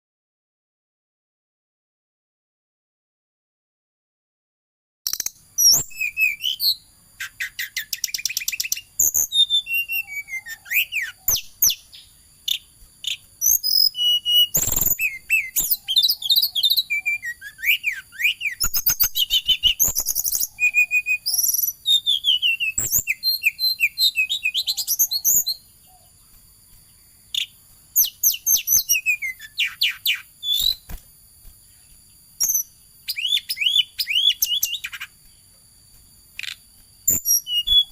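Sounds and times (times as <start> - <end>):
songbird singing chirps and trills: 5.1 - 37.9.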